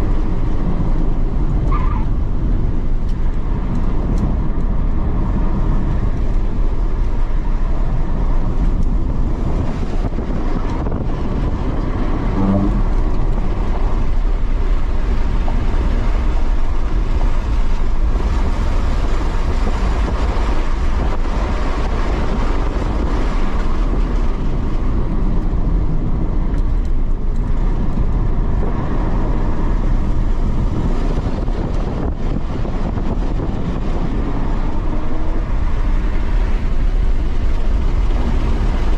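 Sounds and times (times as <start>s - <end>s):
car cabin tyre and wind rumble: 0.0s - 38.9s.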